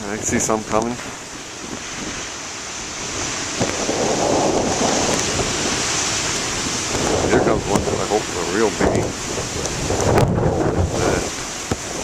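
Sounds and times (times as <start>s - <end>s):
ocean surf breaking: 0.0s - 12.0s
wind on microphone: 0.0s - 12.0s.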